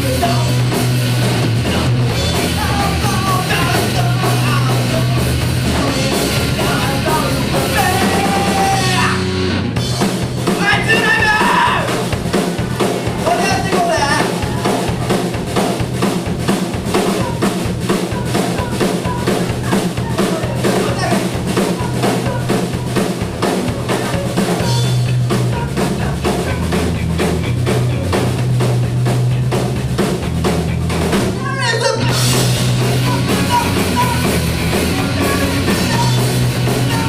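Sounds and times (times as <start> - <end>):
bass line: 0.0 - 37.0
drum kit beat: 0.0 - 37.0
rock band playing live: 0.0 - 37.0.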